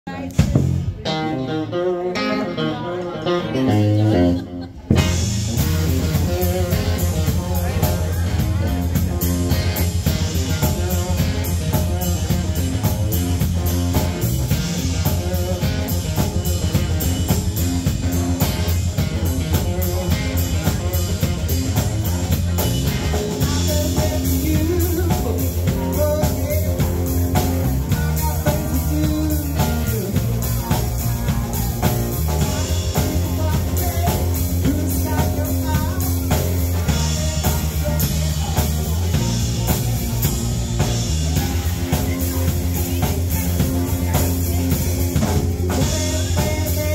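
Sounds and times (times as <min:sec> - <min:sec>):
drum kit: 0:00.1 - 0:02.6, 0:03.2 - 0:46.9
electric bass: 0:00.1 - 0:46.9
electric guitar: 0:00.1 - 0:46.9.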